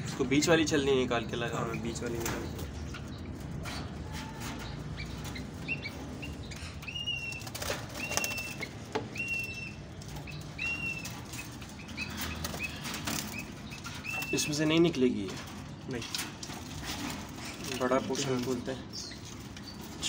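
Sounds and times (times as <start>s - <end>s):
wings flapping in a cage: 1.7s - 20.0s.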